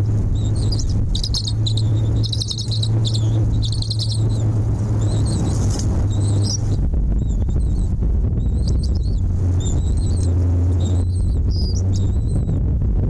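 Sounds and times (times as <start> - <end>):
loud steady low hum: 0.0 - 13.0
high-pitched chirping: 0.3 - 12.5.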